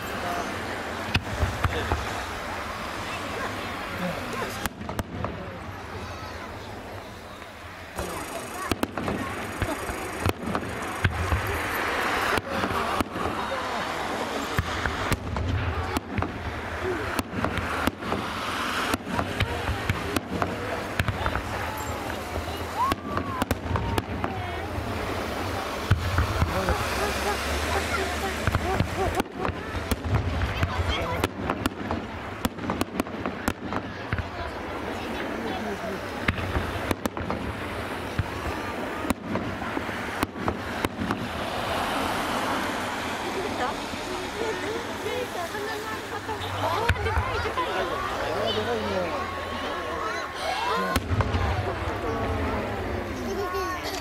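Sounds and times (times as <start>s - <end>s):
fireworks bangs: 0.0s - 54.0s
noisy hush: 0.0s - 54.0s
rushing background noise: 0.0s - 54.0s.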